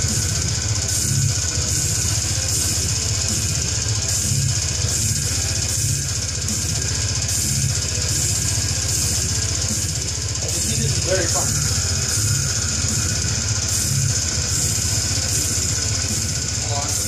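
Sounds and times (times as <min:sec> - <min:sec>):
distorted guitar: 0:00.0 - 0:17.0
heavy metal song: 0:00.0 - 0:17.0
pulsing kick drum: 0:00.0 - 0:17.0.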